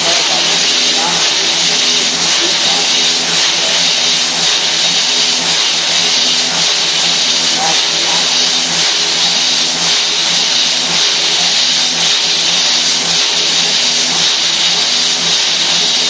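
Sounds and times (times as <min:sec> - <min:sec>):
mill cutting steel: 0:00.0 - 0:16.0.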